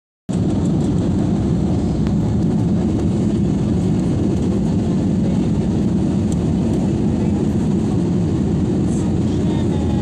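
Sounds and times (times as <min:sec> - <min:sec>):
airliner cabin rumble: 0:00.3 - 0:10.0.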